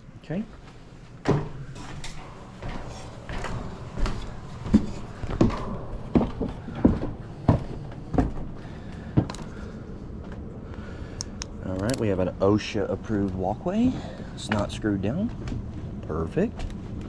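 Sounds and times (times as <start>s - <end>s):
heavy footsteps and knocks: 0.5s - 10.5s, 13.0s - 17.0s.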